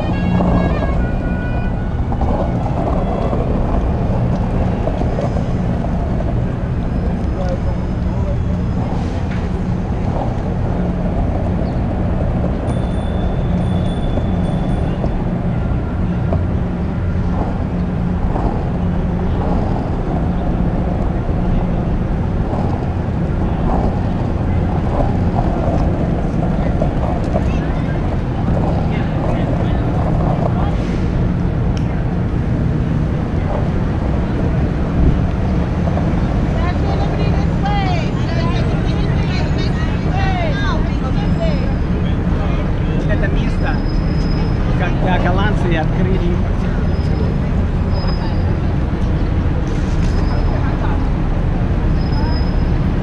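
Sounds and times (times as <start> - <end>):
low hum and rumble: 0.0 - 53.0
wind buffeting microphone: 0.0 - 53.0.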